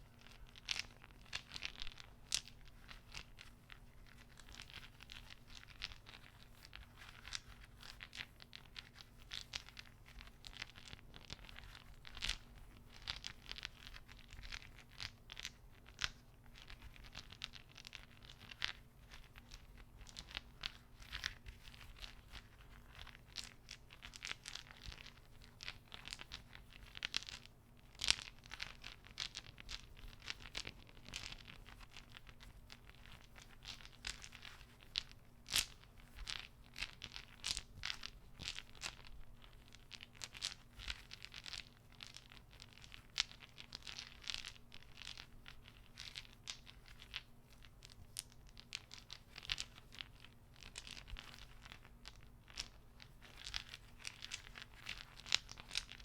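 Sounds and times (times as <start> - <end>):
wooden beads clacking: 0.0 - 56.0.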